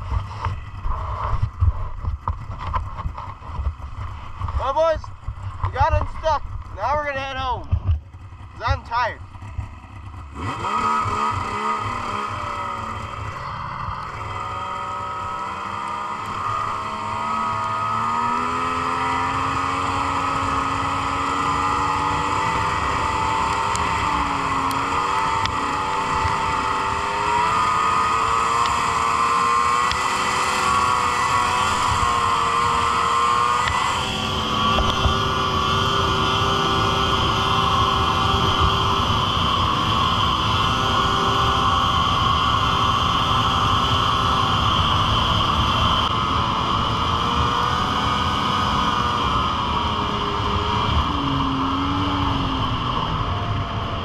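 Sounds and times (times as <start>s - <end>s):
snowmobile engine under throttle: 0.0s - 54.0s.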